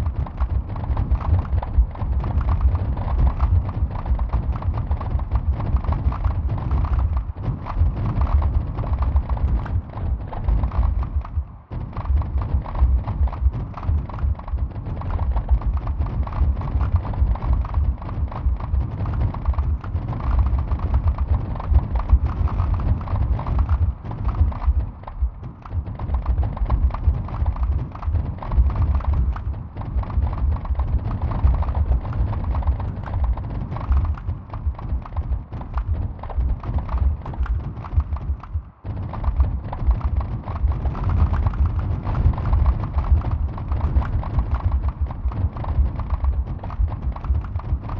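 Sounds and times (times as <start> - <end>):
stream of low thuds and knocks: 0.0 - 47.9.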